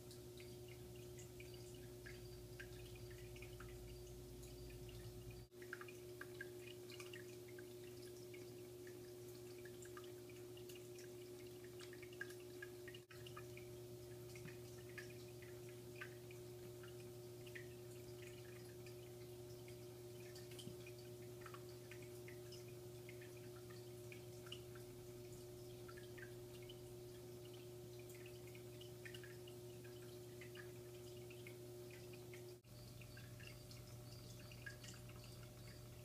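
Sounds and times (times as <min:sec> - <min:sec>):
aquarium equipment hum: 0:00.0 - 0:36.0
soft water drips: 0:00.0 - 0:36.0.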